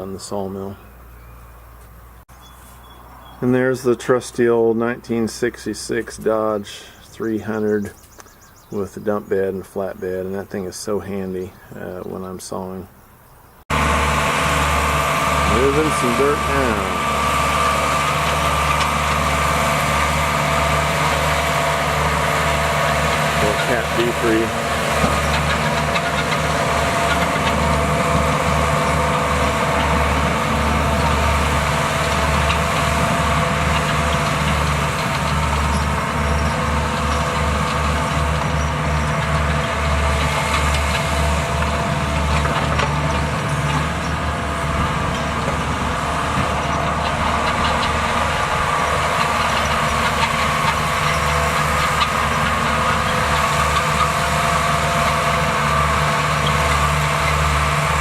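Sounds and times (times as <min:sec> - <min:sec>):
heavy diesel engine rumbling: 0:00.0 - 0:58.0
steady engine whine: 0:00.0 - 0:58.0.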